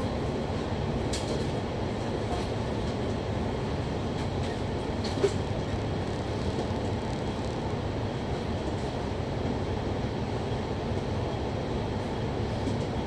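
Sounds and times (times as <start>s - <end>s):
vehicle and traffic rumble: 0.0s - 13.0s.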